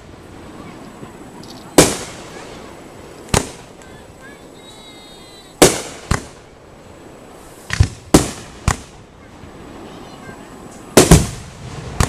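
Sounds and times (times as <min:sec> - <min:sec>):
fireworks bursting with echo: 0:00.0 - 0:12.0.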